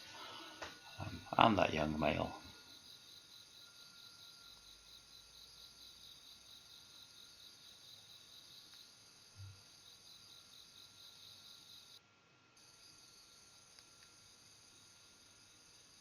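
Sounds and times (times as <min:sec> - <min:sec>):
crickets chirping: 0:00.0 - 0:12.0, 0:12.6 - 0:16.0.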